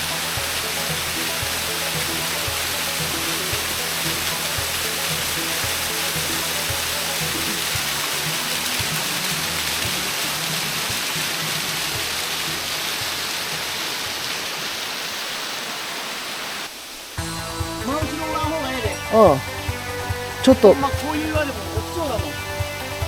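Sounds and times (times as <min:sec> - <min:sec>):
background music: 0:00.0 - 0:14.6, 0:17.2 - 0:23.0
waterfall rushing: 0:00.0 - 0:23.0.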